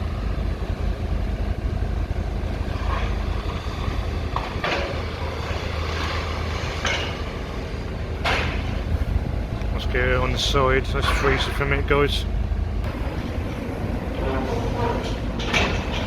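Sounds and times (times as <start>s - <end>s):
demolition machinery rumbling: 0.0s - 16.0s
demolition clatters: 2.6s - 16.0s.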